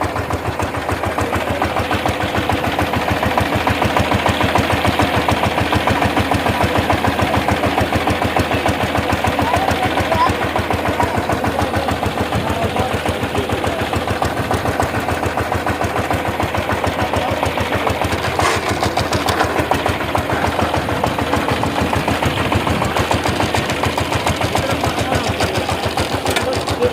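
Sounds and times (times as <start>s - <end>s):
diesel engine knocking: 0.0s - 26.9s.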